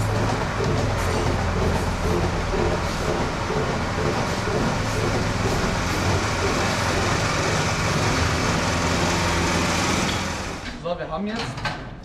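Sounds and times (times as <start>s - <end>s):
milking machine humming: 0.0s - 10.6s.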